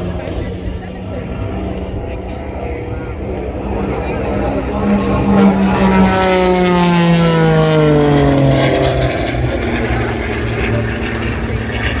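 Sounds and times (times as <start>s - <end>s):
propeller plane passing by: 0.0s - 12.0s.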